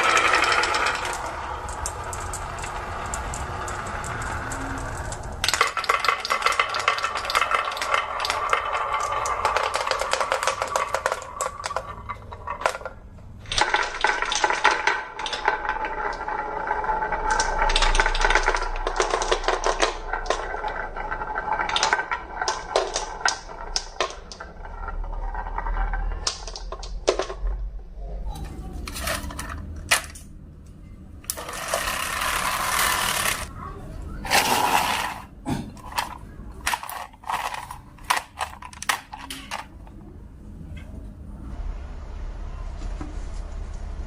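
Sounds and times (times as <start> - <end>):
marbles clattering down a track: 0.0 - 27.8, 31.3 - 33.6, 34.2 - 40.0.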